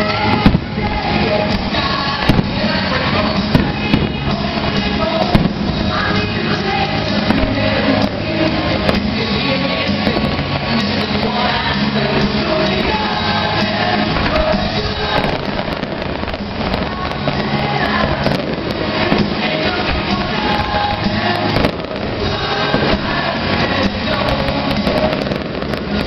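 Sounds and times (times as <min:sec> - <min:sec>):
fireworks bangs and crackles: 0:00.0 - 0:26.0
music with singing voice: 0:00.0 - 0:26.0.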